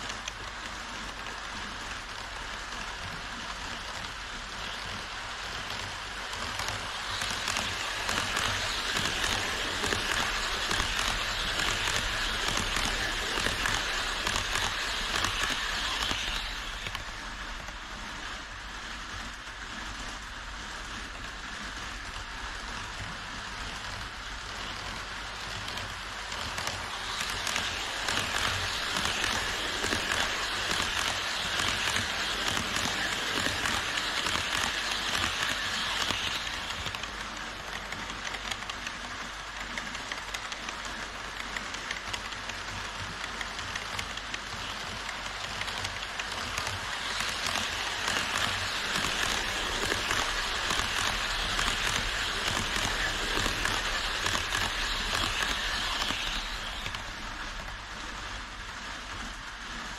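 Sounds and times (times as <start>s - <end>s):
model train wheels on track: 0.0s - 59.9s.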